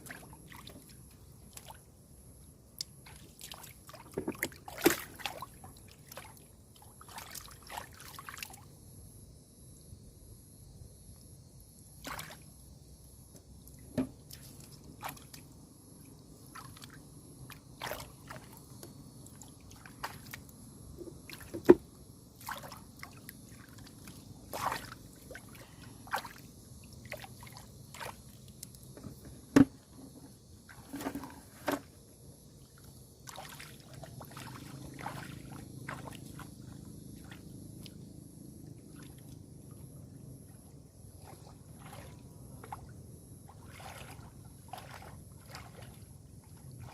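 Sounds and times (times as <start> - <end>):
water splashing and sloshing: 0.0 - 2.0, 2.6 - 8.8, 11.9 - 12.6, 13.4 - 46.9.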